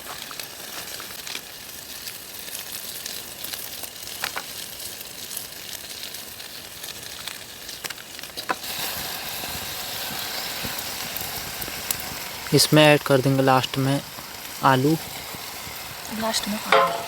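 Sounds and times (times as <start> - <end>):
curry sizzling in a pan: 0.0 - 17.0.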